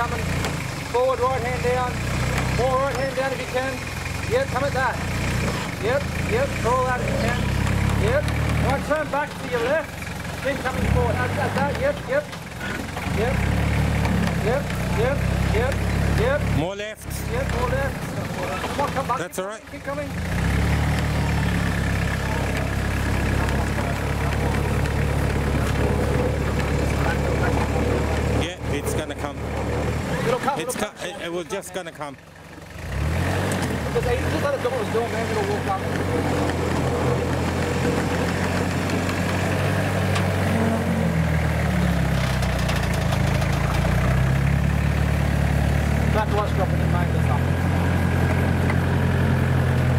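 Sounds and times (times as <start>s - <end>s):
truck engine at low revs: 0.0s - 49.9s.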